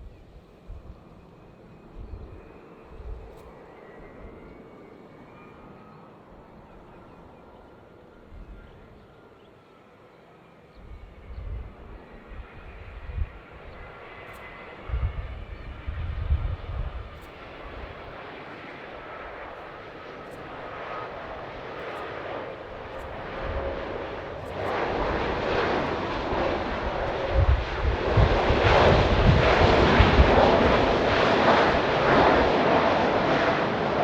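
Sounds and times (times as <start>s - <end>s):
jet airliner engines: 0.0s - 34.0s.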